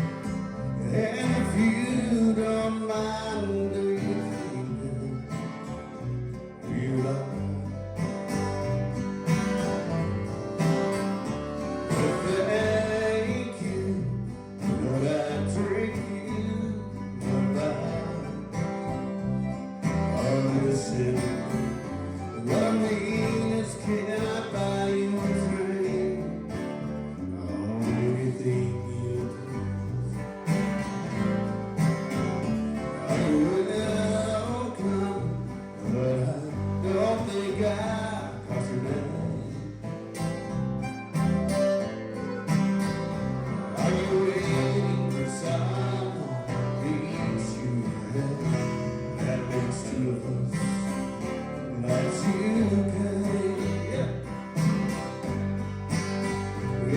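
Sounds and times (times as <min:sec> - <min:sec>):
country music with plucked guitar: 0:00.0 - 0:56.9.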